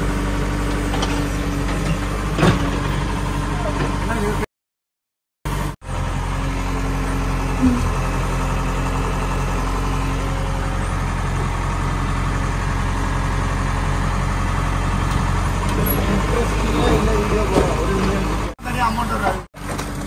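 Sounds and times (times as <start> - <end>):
diesel engine idling: 0.0 - 4.5, 5.5 - 20.0.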